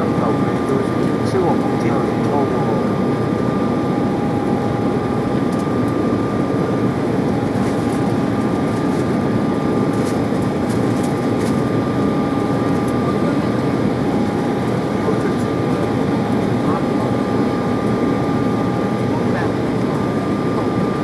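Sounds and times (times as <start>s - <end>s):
jet engine cabin rush: 0.0s - 21.0s.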